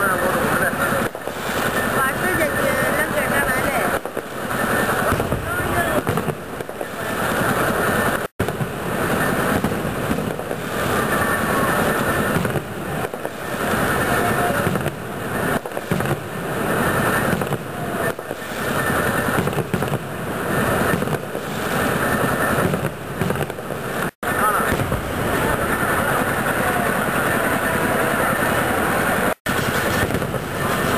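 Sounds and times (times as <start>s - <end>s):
fireworks crackling: 0.0s - 30.9s.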